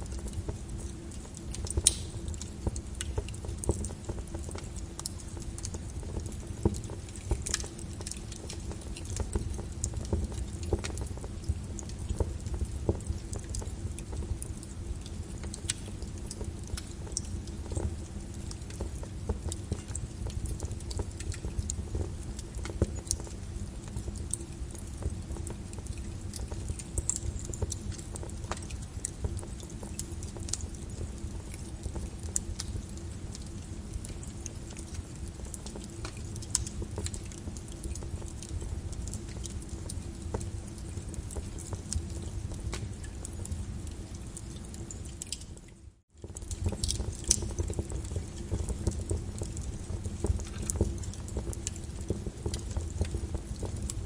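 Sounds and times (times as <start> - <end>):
lava crackling and popping: 0.0 - 54.0.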